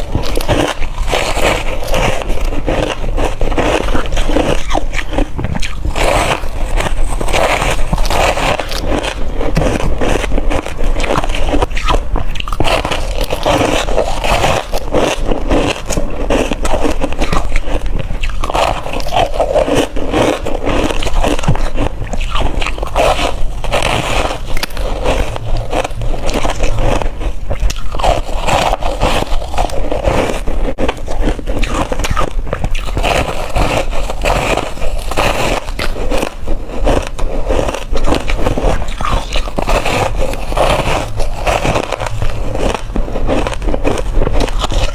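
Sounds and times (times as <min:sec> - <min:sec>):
person crunching ice: 0:00.0 - 0:44.9.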